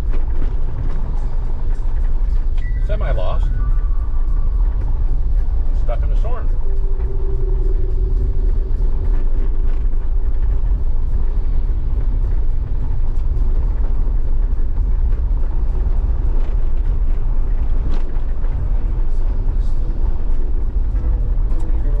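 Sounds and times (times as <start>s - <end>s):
tyres on dirt road: 0.0s - 22.0s
vehicle engine: 0.0s - 22.0s
wind noise: 0.0s - 22.0s.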